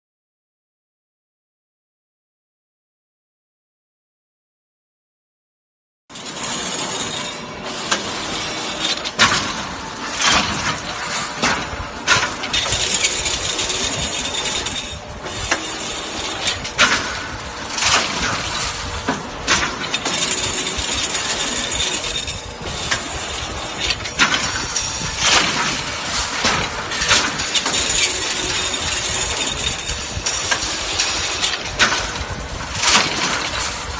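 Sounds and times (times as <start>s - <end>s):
wire mesh weaving machine clatter: 6.2s - 33.9s.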